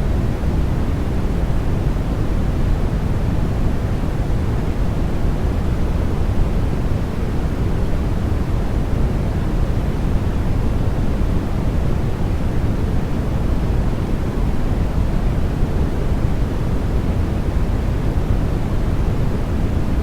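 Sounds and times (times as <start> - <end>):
white noise hiss: 0.0 - 20.0.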